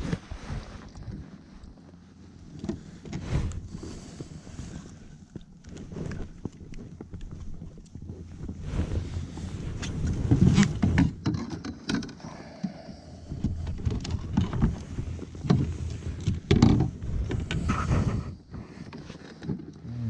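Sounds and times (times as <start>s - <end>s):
steady low rumble: 0.0s - 11.2s, 12.2s - 18.9s.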